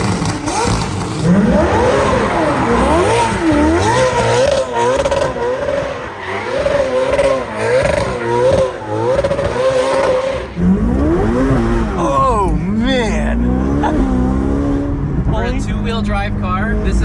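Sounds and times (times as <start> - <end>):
car engine revving: 0.0 - 17.0
exhaust cracks: 0.0 - 17.0.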